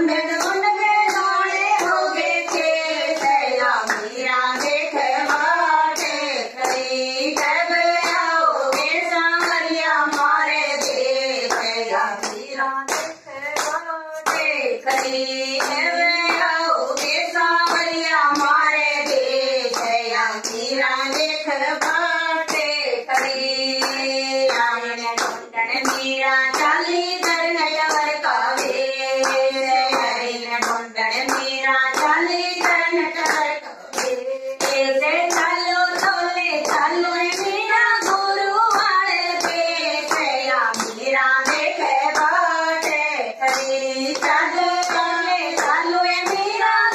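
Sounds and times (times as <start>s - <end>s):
women singing together: 0.0s - 46.9s
hands clapping in time: 0.3s - 46.9s.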